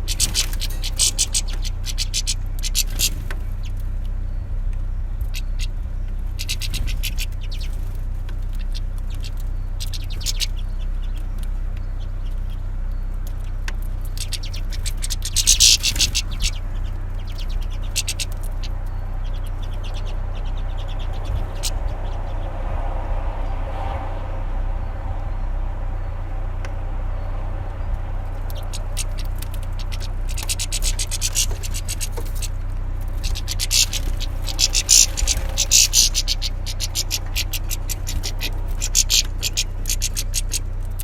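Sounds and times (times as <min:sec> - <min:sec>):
finches chattering: 0:00.0 - 0:22.5, 0:27.7 - 0:41.0
steady low rumble: 0:00.0 - 0:41.0.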